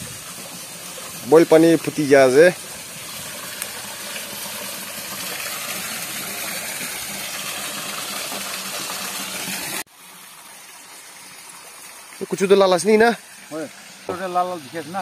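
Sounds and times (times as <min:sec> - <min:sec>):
distant stream rushing: 0:00.0 - 0:15.0
waterfall splashing into pool: 0:00.0 - 0:15.0.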